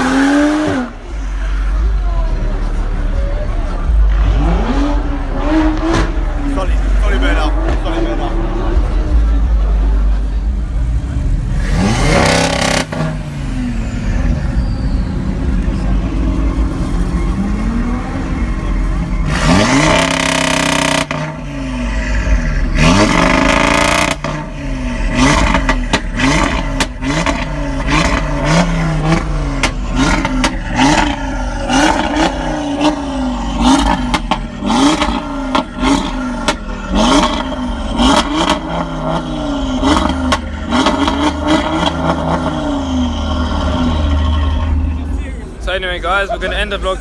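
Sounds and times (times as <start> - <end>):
loud rushing noise: 0.0 - 46.2
sharp exhaust cracks: 0.0 - 46.8
car engine revving: 0.0 - 47.0.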